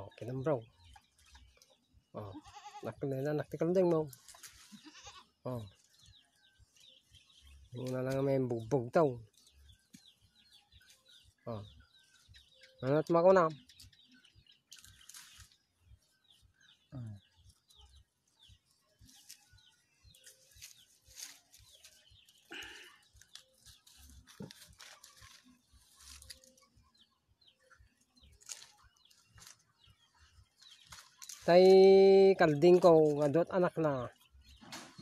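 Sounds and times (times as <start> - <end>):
faint farm animal calls: 0.0 - 35.0.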